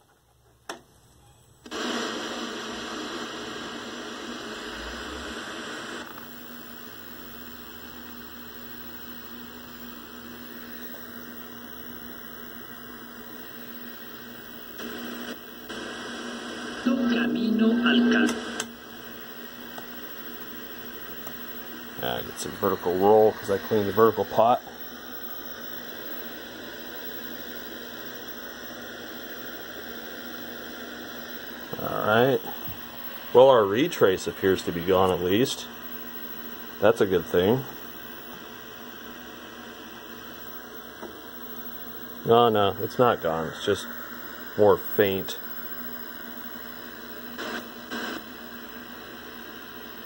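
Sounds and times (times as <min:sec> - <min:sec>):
television static hiss: 0:00.0 - 0:50.0
steady low hum: 0:01.6 - 0:50.0.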